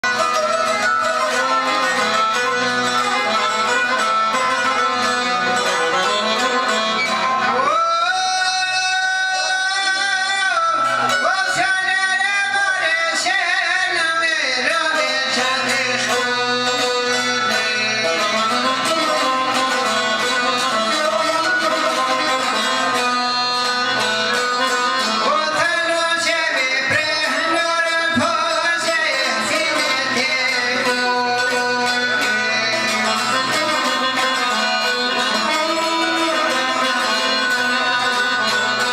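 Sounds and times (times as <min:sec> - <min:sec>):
folk music with plucked strings: 0:00.0 - 0:38.9
ornamented lead melody: 0:00.0 - 0:38.9.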